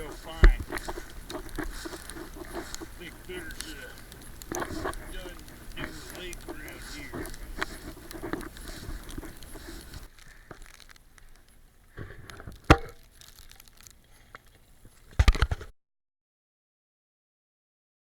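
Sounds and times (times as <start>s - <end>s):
rustling handling noise: 0.0s - 15.7s.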